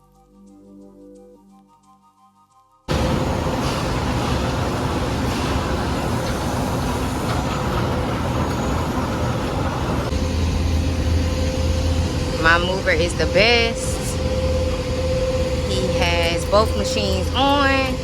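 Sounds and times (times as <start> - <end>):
heavy machinery rumble: 2.9 - 18.0.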